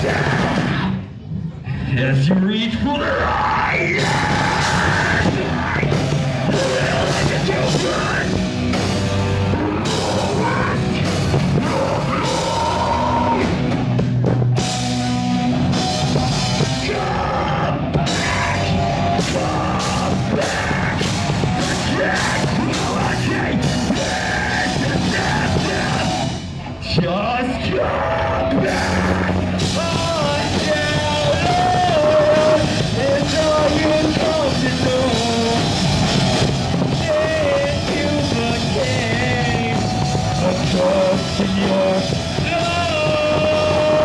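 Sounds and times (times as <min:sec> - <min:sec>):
person singing and shouting: 0:00.0 - 0:01.0, 0:01.9 - 0:13.8, 0:16.1 - 0:44.0
drum kit: 0:00.0 - 0:01.1, 0:03.3 - 0:26.7, 0:27.8 - 0:44.0
electric guitars: 0:00.0 - 0:01.9, 0:03.2 - 0:44.0.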